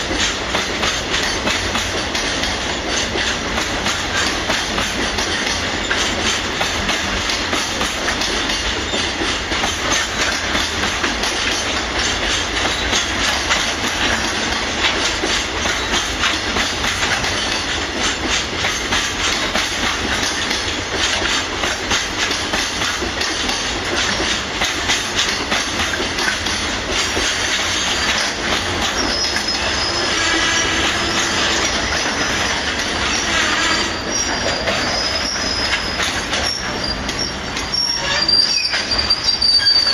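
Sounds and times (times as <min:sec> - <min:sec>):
freight train wheels clacking: 0:00.0 - 0:39.9
train wheels squealing: 0:00.0 - 0:39.9.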